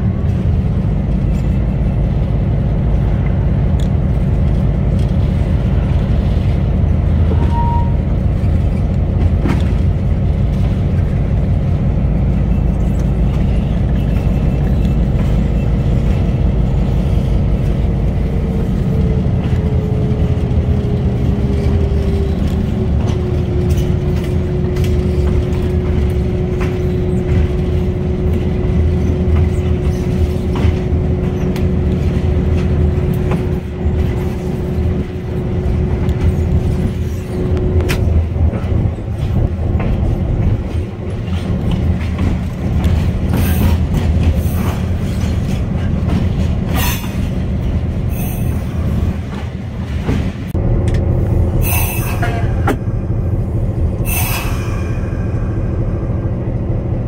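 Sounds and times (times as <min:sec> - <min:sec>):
train wheels clicking: 0:00.0 - 0:52.9
diesel locomotive engine drone: 0:00.0 - 0:57.0.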